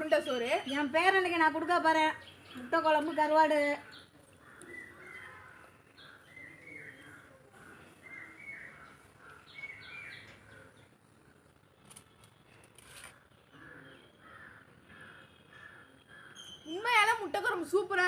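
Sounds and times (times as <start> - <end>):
faint birds chirping: 0.0 - 17.6.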